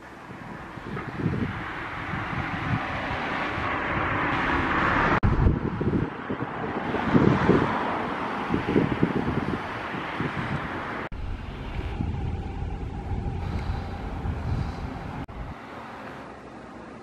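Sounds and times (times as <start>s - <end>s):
distant traffic rumble: 0.0s - 17.0s
wind on microphone: 0.2s - 15.6s.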